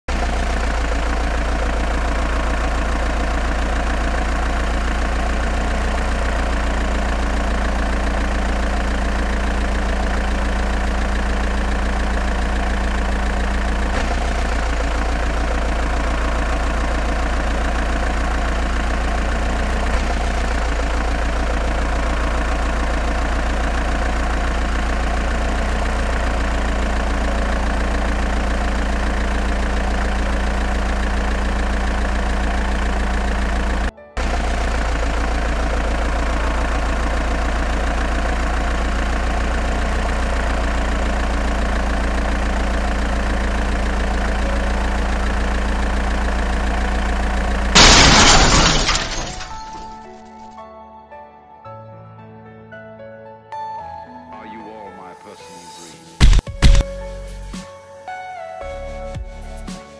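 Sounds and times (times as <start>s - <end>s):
engine idling: 0.0s - 50.5s, 56.2s - 57.6s.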